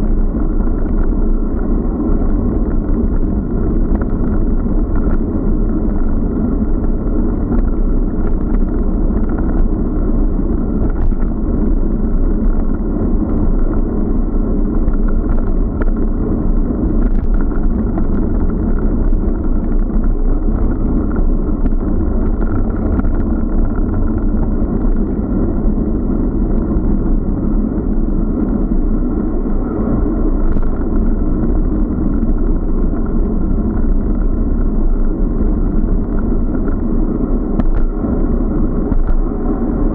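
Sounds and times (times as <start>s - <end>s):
bicycle road noise: 0.0s - 39.9s
wind rumble on microphone: 0.0s - 39.9s.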